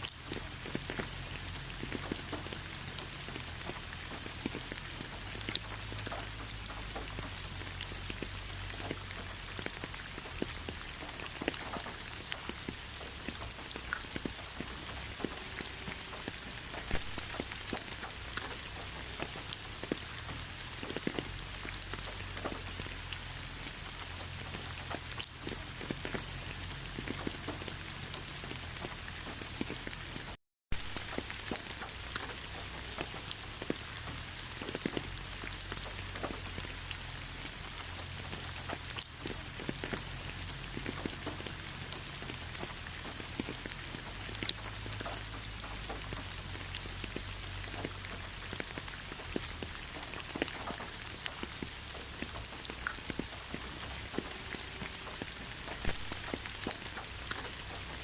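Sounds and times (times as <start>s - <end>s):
hiss of downpour: 0.0s - 58.0s
raindrops striking close by: 0.0s - 58.0s.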